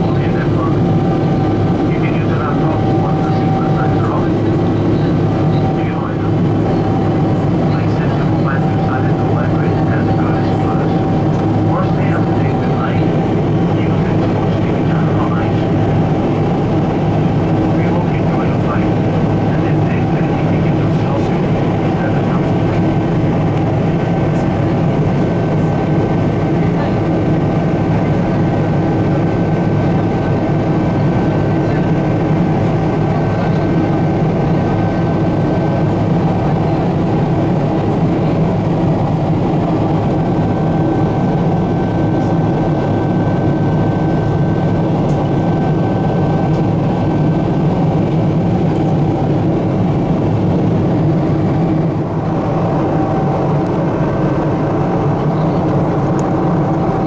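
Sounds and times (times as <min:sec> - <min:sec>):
airliner engine and airflow drone: 0:00.0 - 0:57.0.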